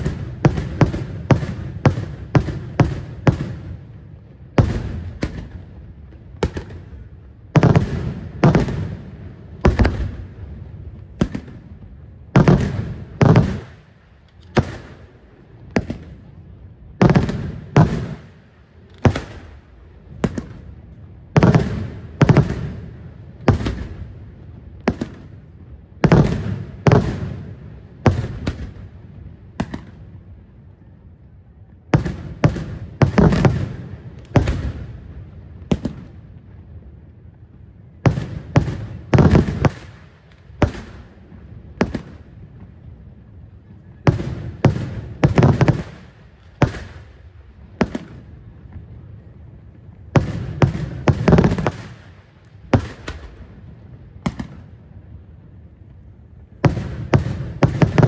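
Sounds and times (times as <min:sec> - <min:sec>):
fireworks bangs with echo: 0:00.0 - 0:55.3, 0:56.5 - 0:58.0.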